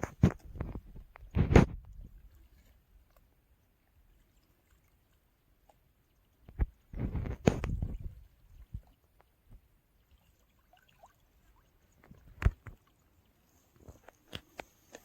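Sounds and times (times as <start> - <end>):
water splashing: 1.6 - 14.1.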